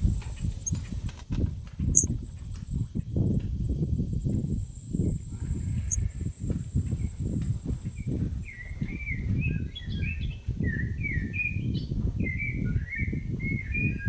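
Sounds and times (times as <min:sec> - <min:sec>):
constant low rumble: 0:00.0 - 0:14.0
songbird warbling: 0:01.8 - 0:03.0, 0:03.6 - 0:14.0.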